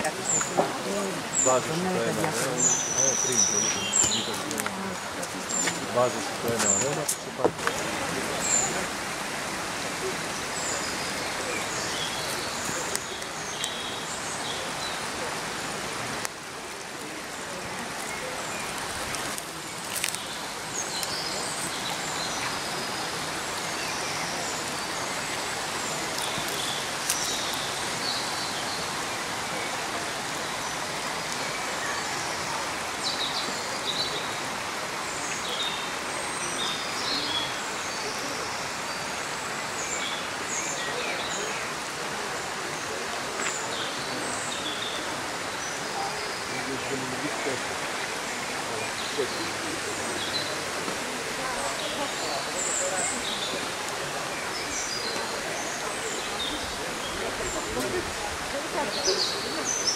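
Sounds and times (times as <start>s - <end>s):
small birds chirping: 0.0s - 8.9s, 10.0s - 59.9s.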